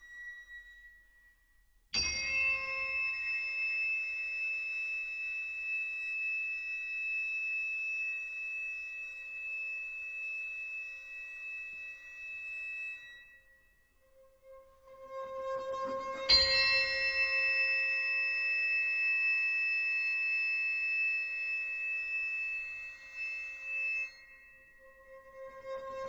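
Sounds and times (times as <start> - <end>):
bell-like metallic ringing tone: 2.0 - 13.4, 16.3 - 26.0.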